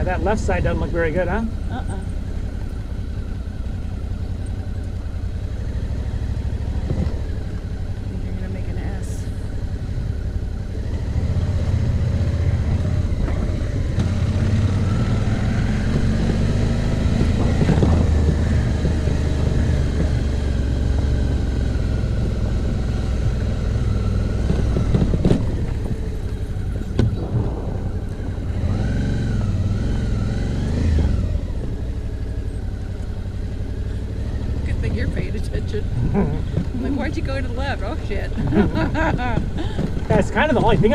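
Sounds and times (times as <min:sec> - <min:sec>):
motorcycle engine at low speed: 0:00.0 - 0:40.9.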